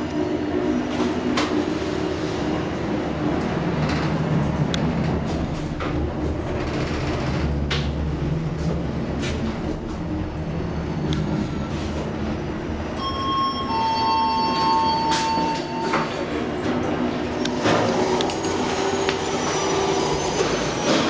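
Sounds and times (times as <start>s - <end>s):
elevator hum and rumble: 0.0s - 21.0s.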